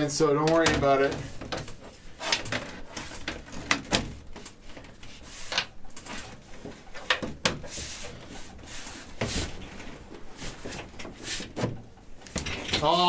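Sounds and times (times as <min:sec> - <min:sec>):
cables rustling: 0:00.0 - 0:13.0.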